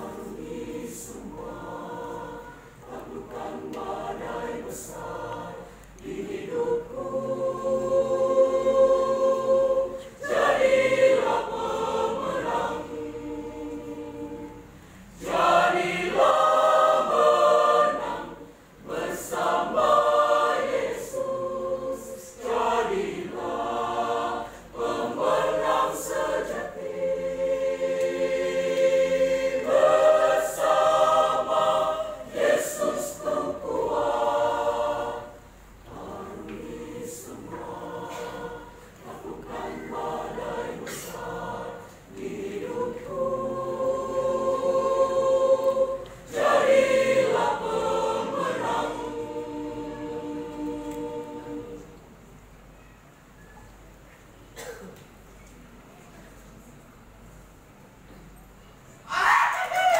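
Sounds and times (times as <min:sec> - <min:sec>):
choir singing a hymn: 0:00.0 - 0:52.7.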